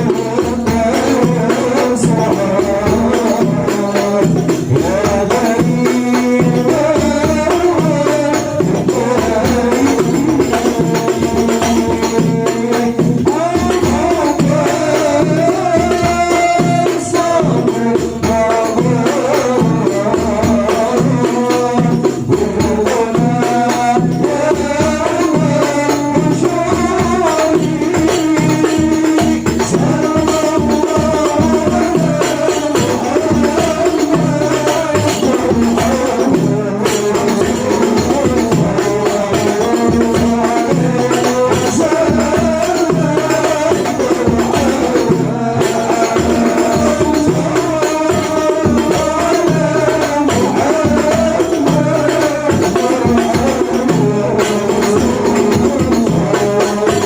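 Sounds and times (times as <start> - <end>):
frame drums: 0.0 - 57.0.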